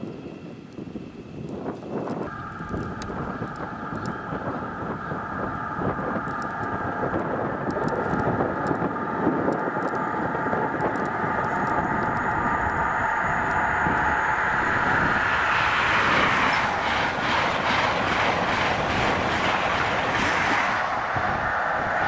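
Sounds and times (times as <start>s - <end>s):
high steady whine: 0.0s - 22.0s
train engine approaching: 1.9s - 22.0s.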